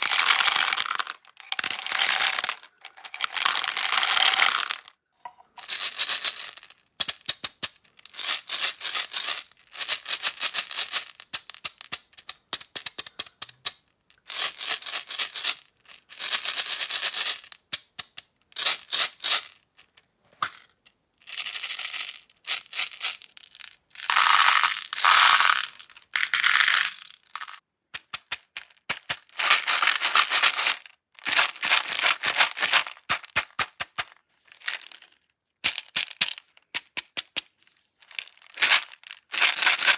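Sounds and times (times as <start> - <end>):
plastic beads rattling on a tray: 0.0 - 4.9, 5.6 - 37.4, 38.0 - 39.9.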